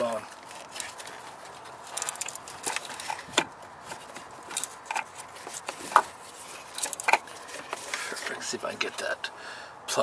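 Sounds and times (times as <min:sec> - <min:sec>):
light rubbing: 0:00.2 - 0:09.0.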